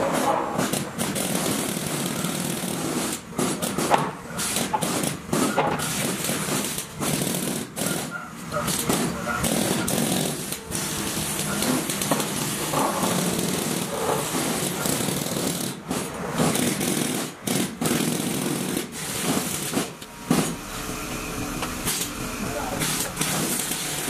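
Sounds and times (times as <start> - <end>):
vibratory pile driver rattling: 0.0 - 24.0.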